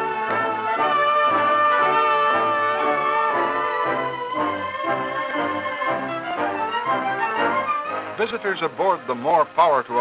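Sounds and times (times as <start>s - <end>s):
orchestral music led by brass: 0.0s - 10.0s.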